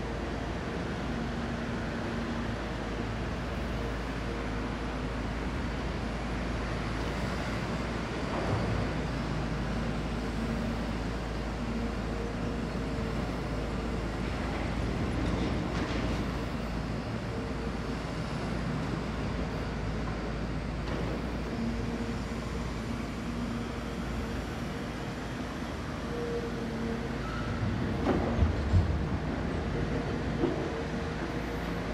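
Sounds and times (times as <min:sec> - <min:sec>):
excavator diesel engine and hydraulics: 0:00.0 - 0:31.9.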